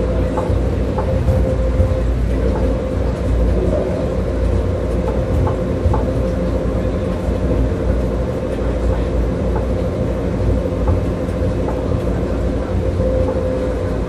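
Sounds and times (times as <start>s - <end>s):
metro train rumbling: 0.0s - 14.0s.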